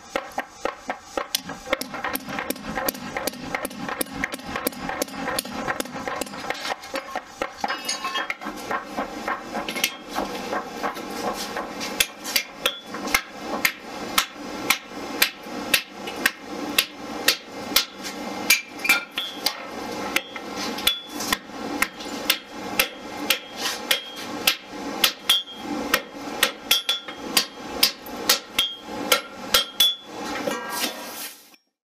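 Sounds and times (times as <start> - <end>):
hammer striking steel on anvil: 0.2 - 10.1, 12.0 - 30.1.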